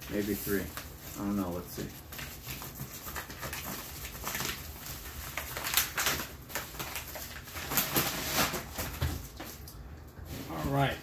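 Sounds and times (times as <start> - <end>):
package rustling: 0.0 - 9.7.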